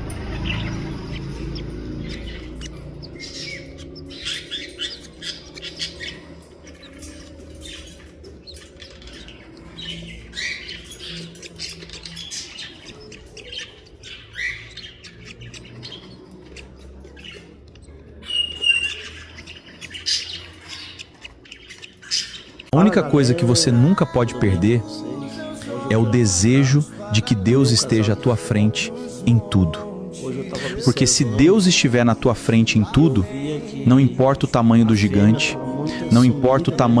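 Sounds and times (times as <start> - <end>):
pet birds chirping: 0.0 - 37.0.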